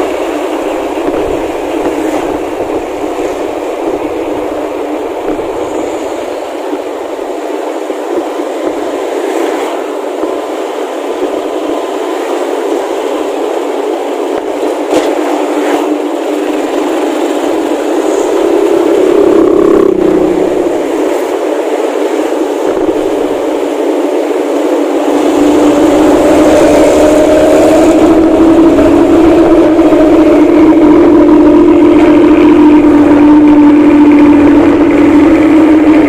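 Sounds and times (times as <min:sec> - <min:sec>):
bus engine and snoring exhaust: 0:00.0 - 0:13.4, 0:14.0 - 0:36.0.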